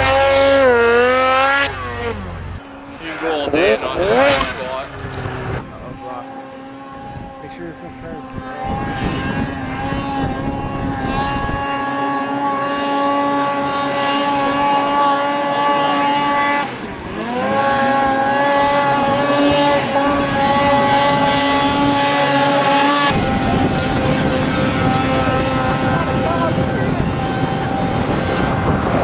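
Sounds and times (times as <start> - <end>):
snowmobile engine at high revs: 0.0 - 29.0.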